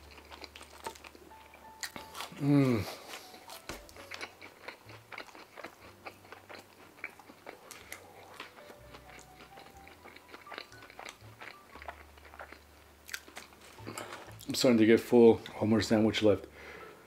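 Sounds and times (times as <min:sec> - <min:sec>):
close-miked chewing: 0:00.0 - 0:14.6.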